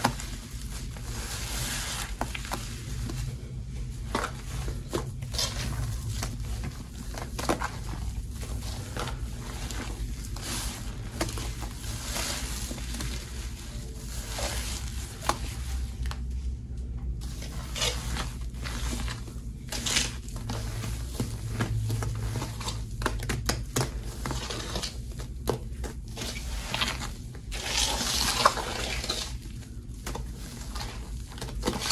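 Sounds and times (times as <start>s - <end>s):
hands squishing soapy paste: 0.0s - 31.9s
steady low hum: 0.0s - 31.9s.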